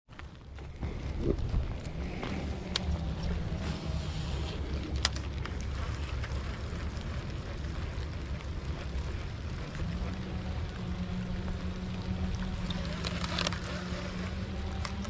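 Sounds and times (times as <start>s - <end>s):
constant low hum: 0.1s - 15.0s
vehicle engine rumble: 0.1s - 15.0s.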